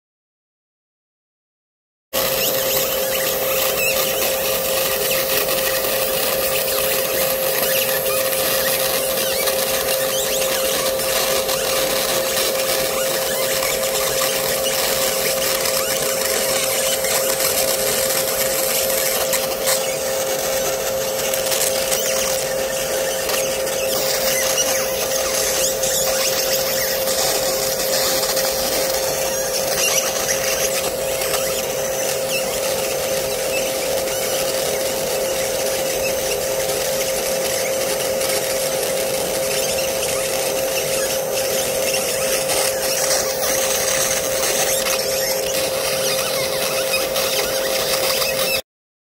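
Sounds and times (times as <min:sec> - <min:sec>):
laser engraver humming and hissing: 0:02.2 - 0:48.6.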